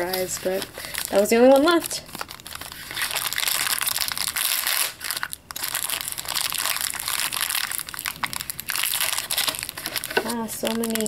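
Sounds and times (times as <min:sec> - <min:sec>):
foil and plastic wrapping crinkling: 0:00.0 - 0:11.0.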